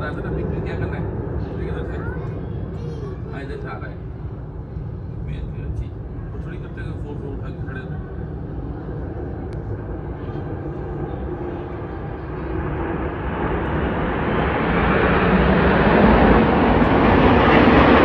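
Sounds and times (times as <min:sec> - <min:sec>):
military aircraft engines flying past: 0:00.0 - 0:18.0.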